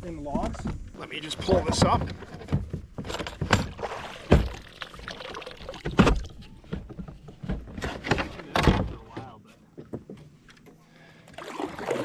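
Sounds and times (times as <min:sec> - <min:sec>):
low watery background: 0:00.0 - 0:12.0.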